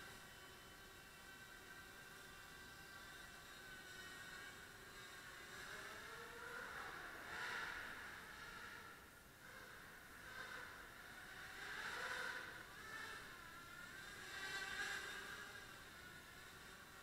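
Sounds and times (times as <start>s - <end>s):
quadcopter propellers whirring: 0.0s - 17.0s.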